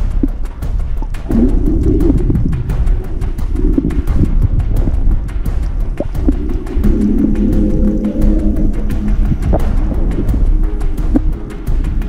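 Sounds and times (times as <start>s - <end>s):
background music: 0.0s - 12.0s
low rumble: 0.0s - 12.0s.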